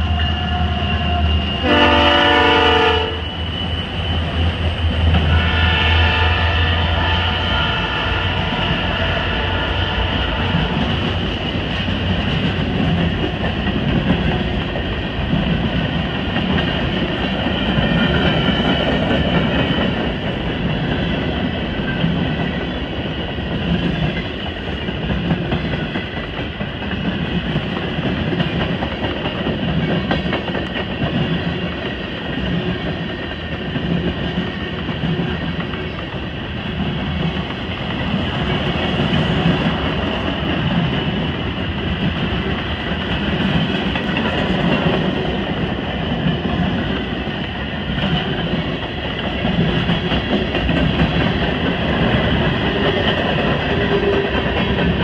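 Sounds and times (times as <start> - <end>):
diesel locomotive drone: 0.0 - 55.0
train wheels clattering on rails: 0.0 - 55.0.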